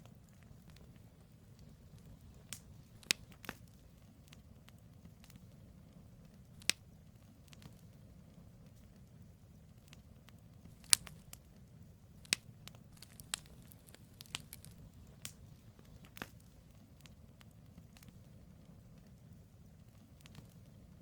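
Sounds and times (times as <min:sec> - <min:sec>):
campfire crackling and popping: 0:00.0 - 0:21.0
low steady rumble: 0:00.0 - 0:21.0.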